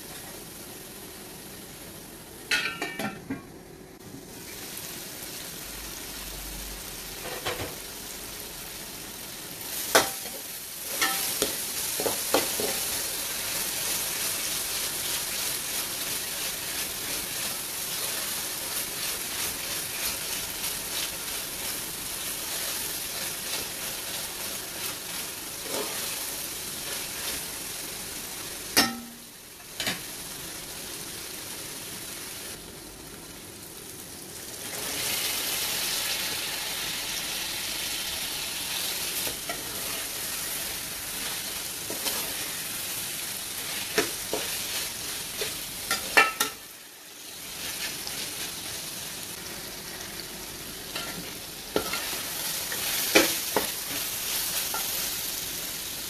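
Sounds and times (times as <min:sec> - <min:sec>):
sizzling in hot oil: 0:00.0 - 0:03.3, 0:04.0 - 0:56.0.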